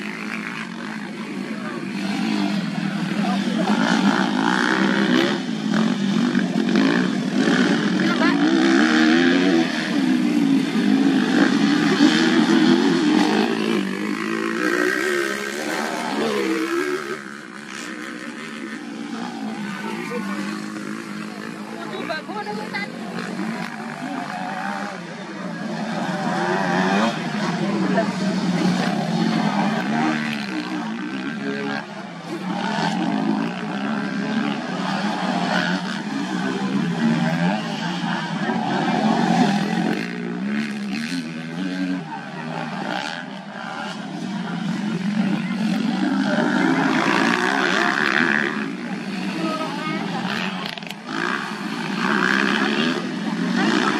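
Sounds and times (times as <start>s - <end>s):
motocross bike engines racing: 0.0s - 53.9s.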